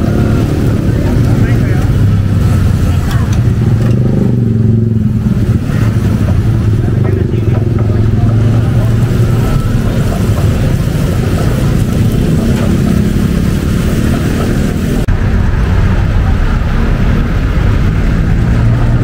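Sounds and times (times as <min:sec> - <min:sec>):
street noise: 0:00.0 - 0:19.0
vehicle engines humming: 0:00.0 - 0:19.0.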